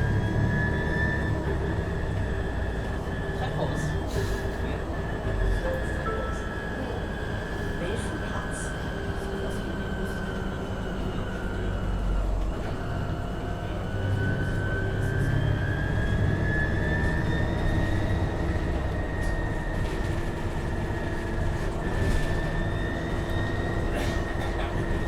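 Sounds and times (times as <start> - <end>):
bus drive whine: 0.0 - 25.0
bus low running rumble: 0.0 - 25.0.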